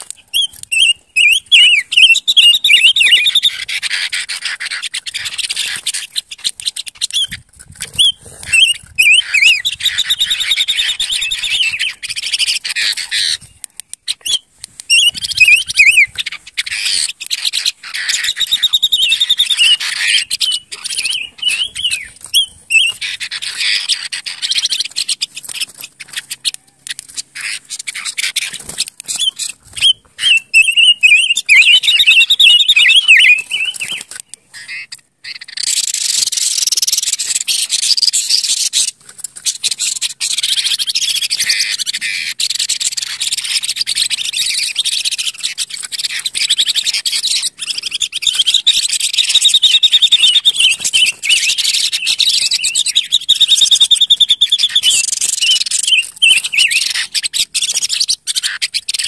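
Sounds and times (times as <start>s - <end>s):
bird calling with chirps and trill: 0.0s - 59.0s.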